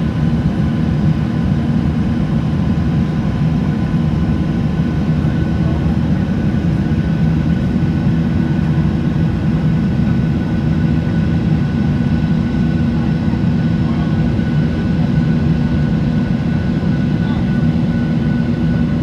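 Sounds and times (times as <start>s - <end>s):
jet engines droning: 0.0s - 19.0s.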